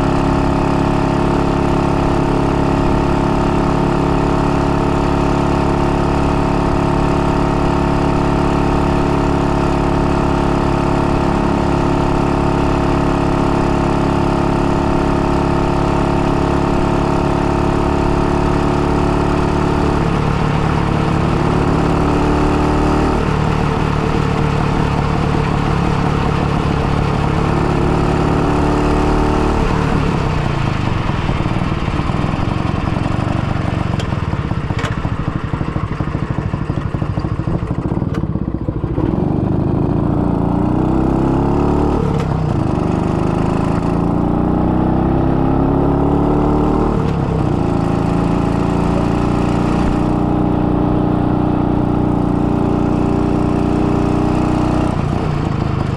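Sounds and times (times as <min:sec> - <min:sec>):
motorcycle two-stroke engine running: 0:00.0 - 0:55.9.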